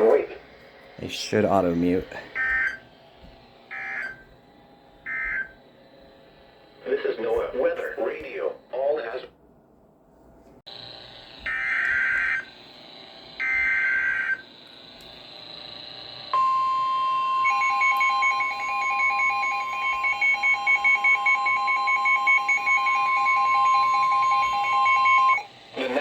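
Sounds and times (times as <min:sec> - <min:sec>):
steady warning alarm tone: 0:00.0 - 0:08.7, 0:10.7 - 0:26.0.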